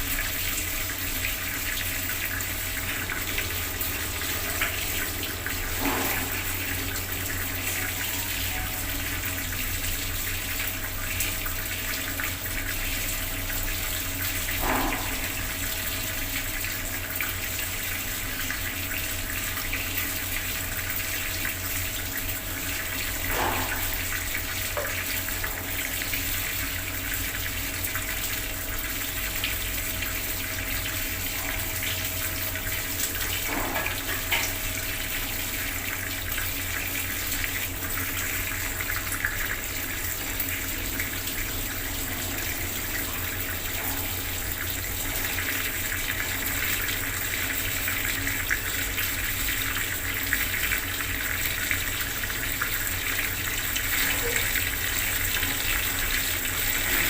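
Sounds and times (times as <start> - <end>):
tap water splashing into basin: 0.0 - 57.0.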